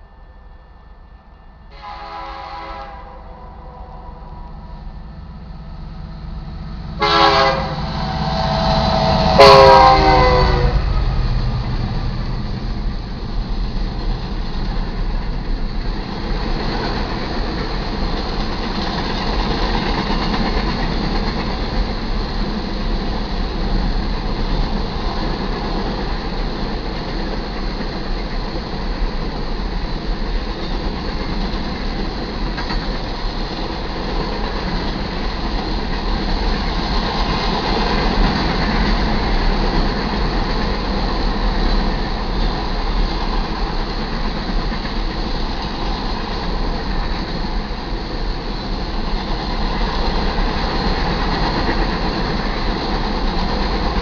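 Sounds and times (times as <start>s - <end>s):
freight trains rolling past: 0.0s - 54.0s.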